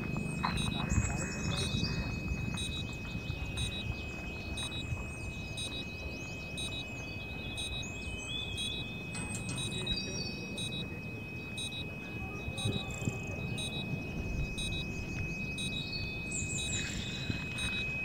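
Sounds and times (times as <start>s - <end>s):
birds chirping: 0.0s - 18.0s
low wind rumble: 0.0s - 18.0s
steady high-pitched tone: 0.0s - 18.0s
short electronic beep: 0.3s - 3.9s, 4.6s - 5.0s, 5.6s - 6.0s, 6.6s - 6.9s, 7.6s - 18.0s.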